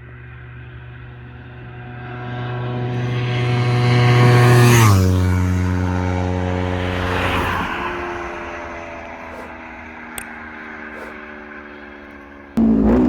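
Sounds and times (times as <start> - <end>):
motorcycle passing at high speed: 1.7 - 13.0.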